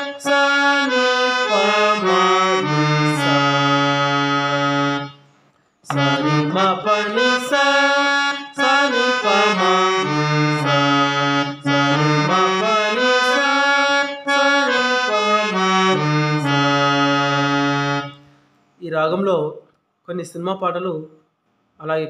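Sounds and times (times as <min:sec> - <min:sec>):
harmonium melody: 0:00.0 - 0:18.4.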